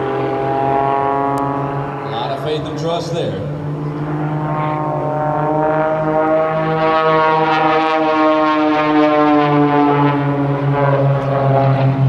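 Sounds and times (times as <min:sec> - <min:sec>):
propeller airplanes droning: 0:00.0 - 0:12.0.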